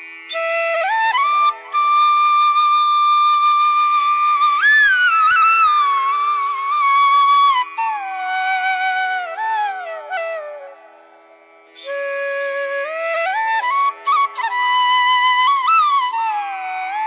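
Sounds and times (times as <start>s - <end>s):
solo flute melody: 0.3s - 11.1s, 11.8s - 17.0s.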